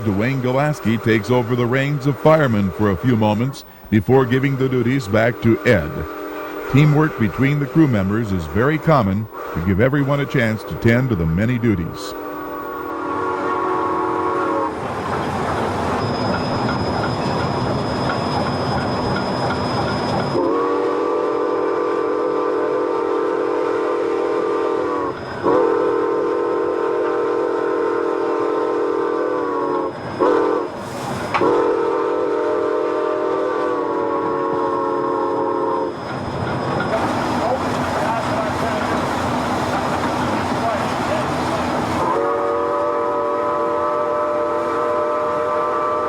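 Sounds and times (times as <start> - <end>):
steam locomotive whistle blasts: 0.0 - 46.0
train rumbling: 0.0 - 46.0.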